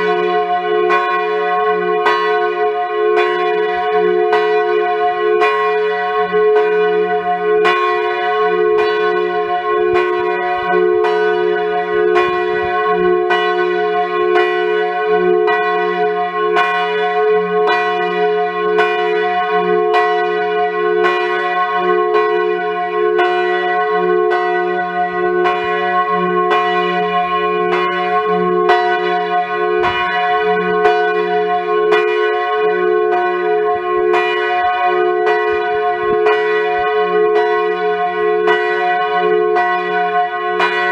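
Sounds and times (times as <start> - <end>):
large church bell ringing: 0.0 - 40.9.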